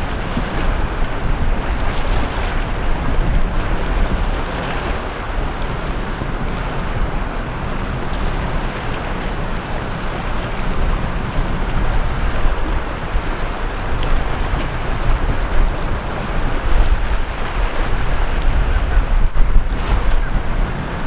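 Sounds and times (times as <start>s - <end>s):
sea waves breaking on shore: 0.0s - 21.0s
wind buffeting microphone: 0.0s - 21.0s.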